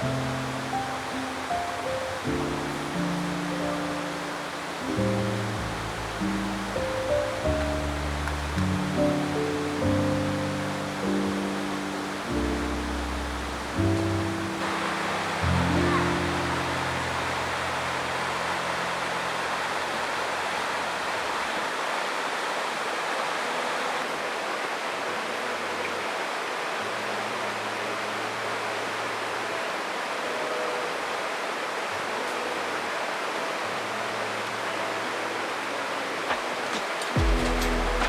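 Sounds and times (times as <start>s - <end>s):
water rushing: 0.0s - 38.0s.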